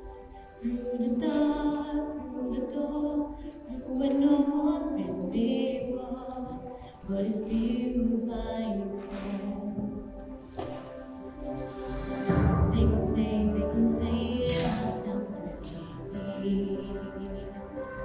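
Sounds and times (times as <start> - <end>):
woman singing: 0.0 - 10.6, 12.2 - 18.0.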